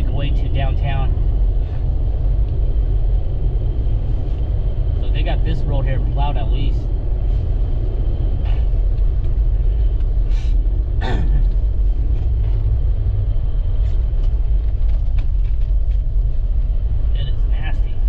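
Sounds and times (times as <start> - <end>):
car driving on snow: 0.0 - 18.0.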